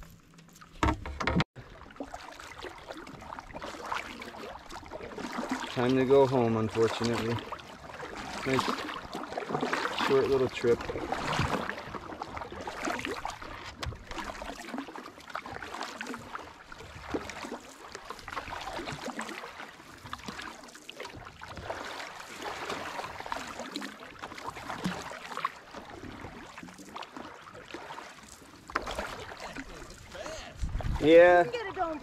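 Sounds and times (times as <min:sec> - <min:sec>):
paddles splashing in water: 0:00.0 - 0:32.0.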